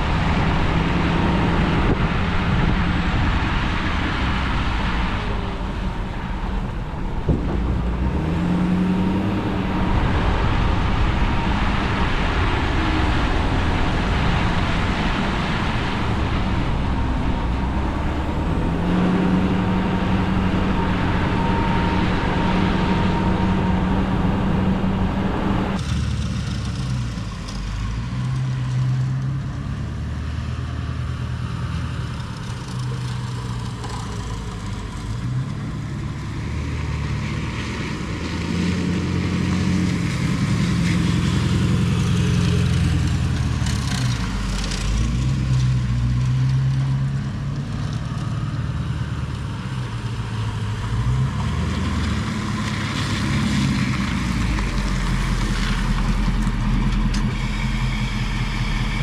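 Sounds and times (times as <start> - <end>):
truck engine driving: 0.0 - 59.0.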